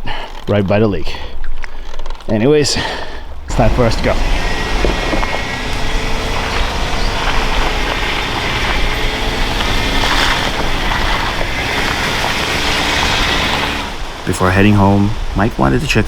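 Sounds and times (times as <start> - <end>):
vehicle engine and road noise: 1.7 - 16.0.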